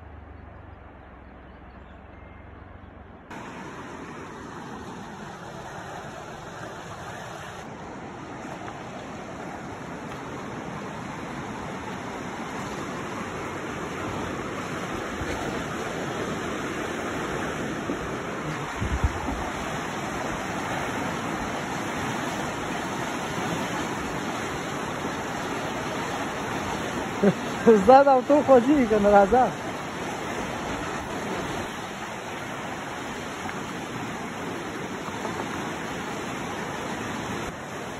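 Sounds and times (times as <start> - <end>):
river rushing over rocks: 3.3 - 37.9.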